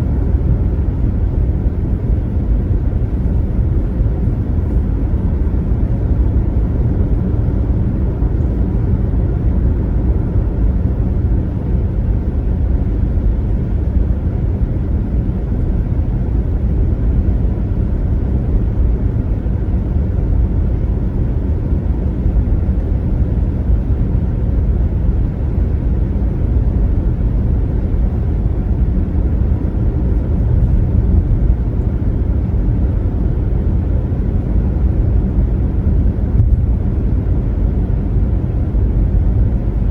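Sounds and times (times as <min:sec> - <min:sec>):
car road rumble at highway speed: 0:00.0 - 0:39.9.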